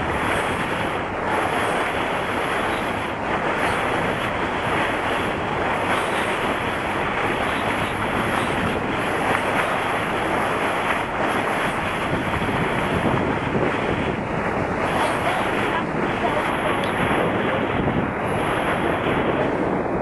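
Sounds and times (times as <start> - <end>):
water washing past hull: 0.0 - 20.0
wind buffeting microphone: 0.0 - 20.0.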